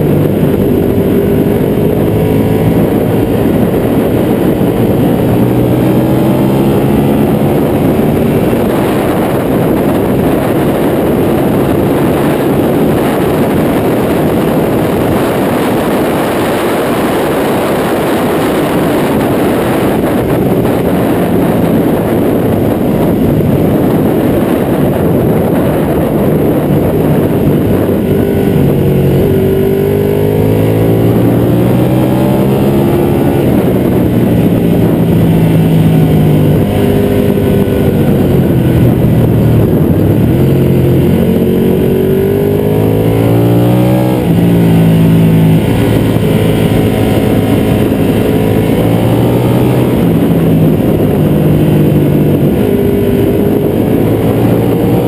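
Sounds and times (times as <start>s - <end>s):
motorcycle engine running hard: 0.0s - 55.0s
wind noise: 0.0s - 55.0s.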